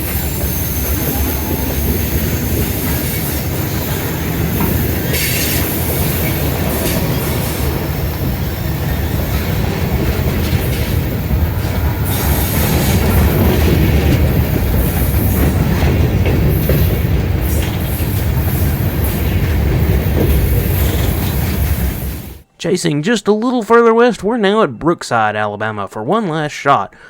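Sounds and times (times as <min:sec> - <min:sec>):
freight train wheels rumbling: 0:00.0 - 0:22.4
train cars clattering: 0:00.0 - 0:22.5.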